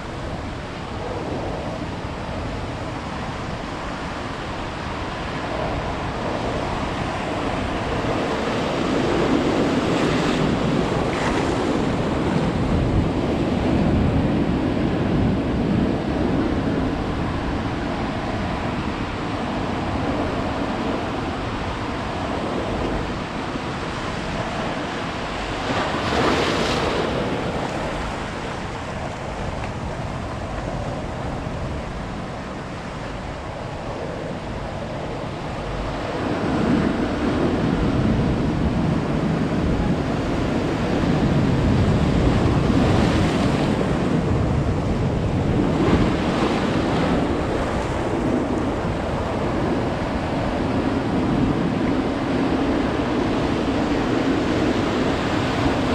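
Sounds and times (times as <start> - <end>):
ocean waves washing on beach: 0.0 - 55.9.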